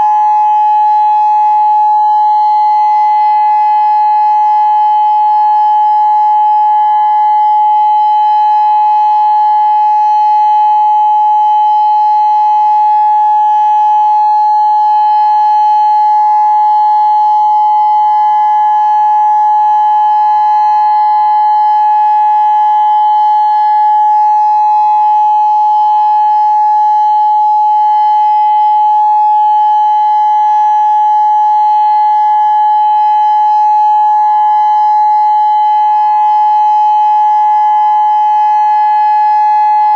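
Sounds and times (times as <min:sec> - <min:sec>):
electronic warning siren tone: 0:00.0 - 0:39.9.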